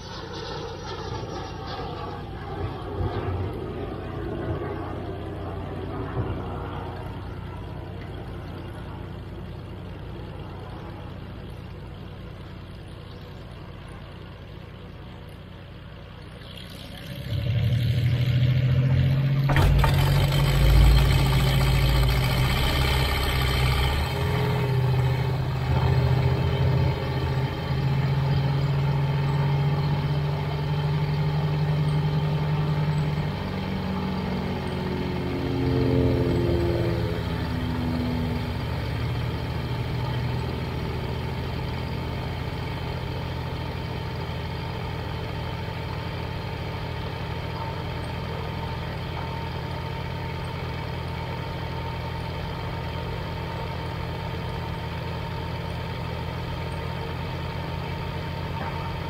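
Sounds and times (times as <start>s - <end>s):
aircraft engine starting and idling: 0.0s - 59.0s
low engine drone: 0.0s - 59.0s.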